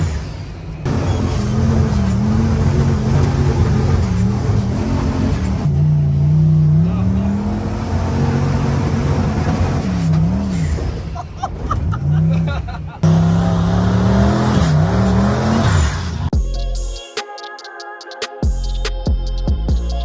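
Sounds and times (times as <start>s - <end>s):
off-road vehicle engine revving: 0.0s - 16.3s.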